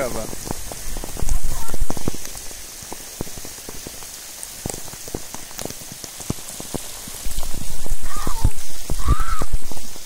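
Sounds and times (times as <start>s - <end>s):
torrential rain: 0.0s - 10.0s.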